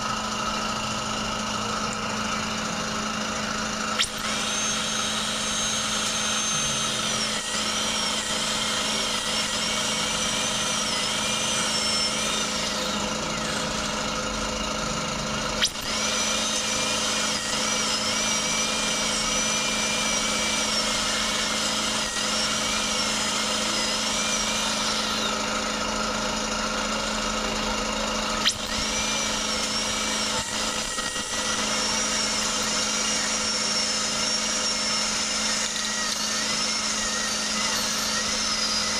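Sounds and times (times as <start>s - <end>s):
drill click: 0.0s - 14.3s, 15.5s - 38.9s
dental drill whining: 0.0s - 38.9s.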